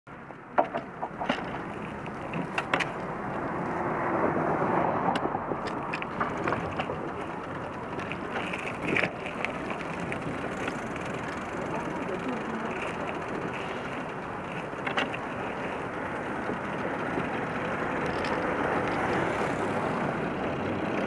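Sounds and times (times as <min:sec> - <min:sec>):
bicycle tyre road noise: 0:00.1 - 0:21.0
bicycle clicks and rattles: 0:00.2 - 0:03.9, 0:05.1 - 0:21.0.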